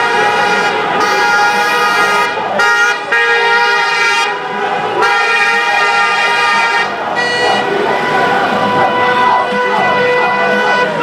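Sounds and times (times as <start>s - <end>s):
car horns honking: 0.0s - 11.0s.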